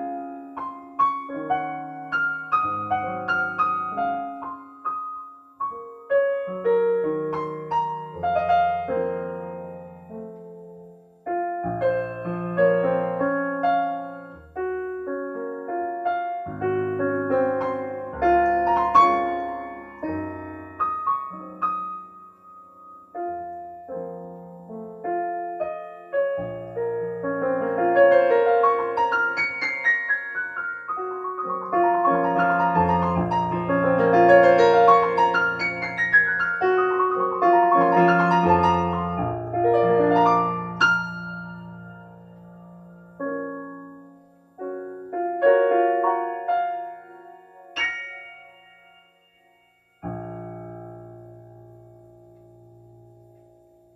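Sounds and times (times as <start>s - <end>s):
solo piano melody over chords: 0.0s - 53.9s.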